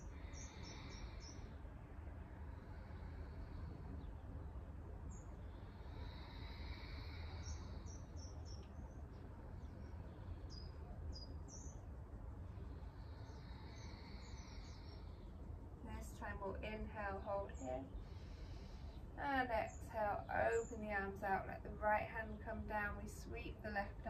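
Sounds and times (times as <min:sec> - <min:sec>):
small birds chirping: 0:00.0 - 0:01.7, 0:02.5 - 0:22.9
steady low rumble: 0:00.0 - 0:24.0.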